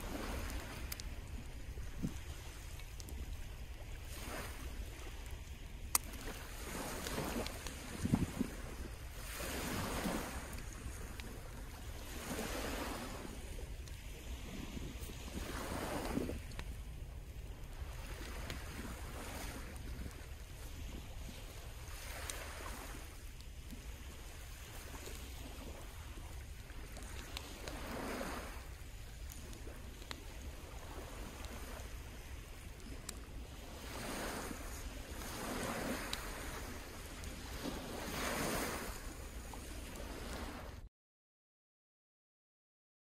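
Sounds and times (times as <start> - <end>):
waves washing onto sandy shore: 0.0 - 40.9
wind rumble on microphone: 0.0 - 40.9.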